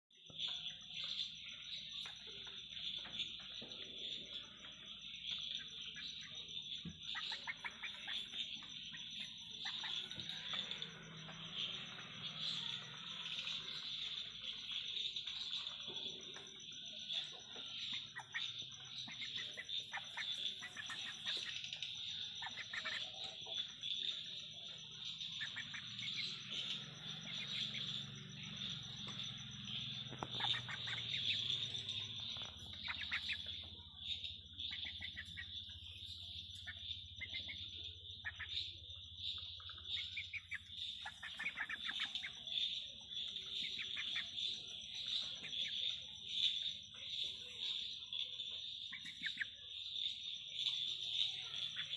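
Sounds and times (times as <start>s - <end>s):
bird chirps: 0.0s - 51.9s
insect trilling: 0.2s - 51.9s.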